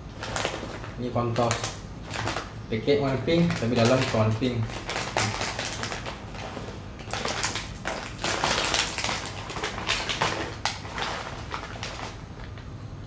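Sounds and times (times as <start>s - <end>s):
plastic snack packet crinkling: 0.1s - 12.7s.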